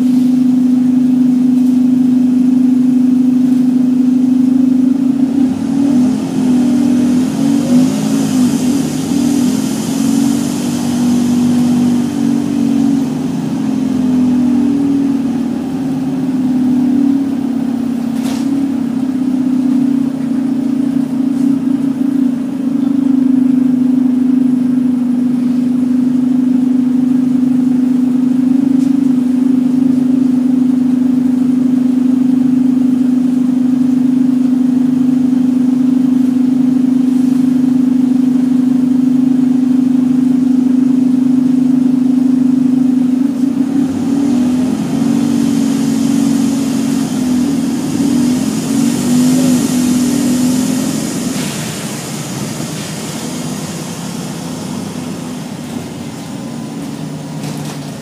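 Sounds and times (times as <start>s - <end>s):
bus engine and road noise: 0.0s - 58.0s
engine cooling fan drone: 0.0s - 58.0s.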